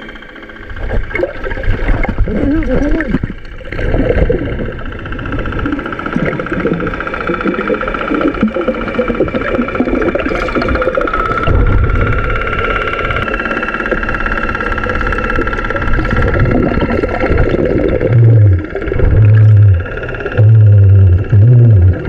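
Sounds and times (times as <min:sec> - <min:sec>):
motor hum through water: 0:00.0 - 0:22.0
rough low rumble: 0:00.5 - 0:22.0.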